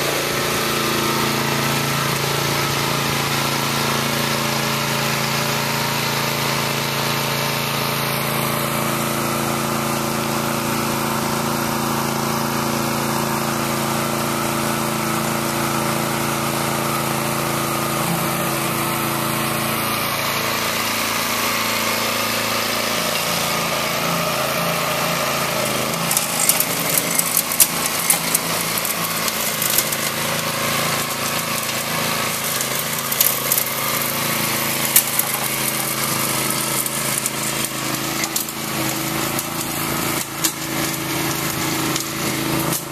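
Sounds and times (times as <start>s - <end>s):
small gasoline engine running: 0.0s - 42.9s.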